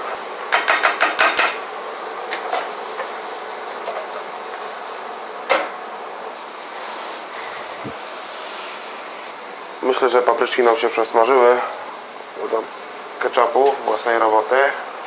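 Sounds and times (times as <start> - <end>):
peppers and onion sizzling in oil: 0.0 - 15.0.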